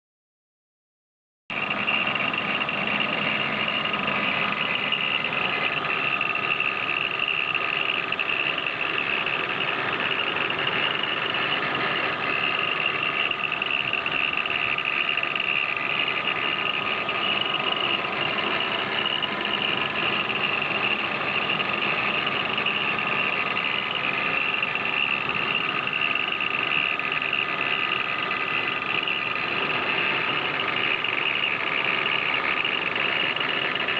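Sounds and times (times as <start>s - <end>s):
car engine idling: 1.5s - 33.9s
rattle from engine bay: 1.6s - 33.9s.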